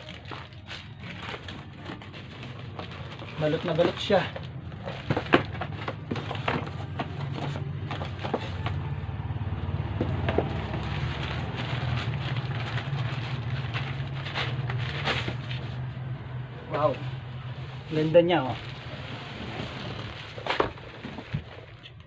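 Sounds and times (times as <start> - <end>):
packaging rustling and crinkling: 0.0 - 8.9, 10.0 - 15.9, 17.6 - 22.0.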